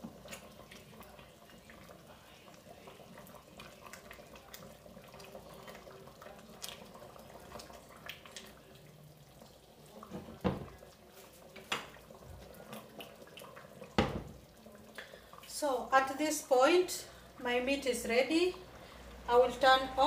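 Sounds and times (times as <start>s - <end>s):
sauce bubbling in a pot: 0.0s - 20.0s.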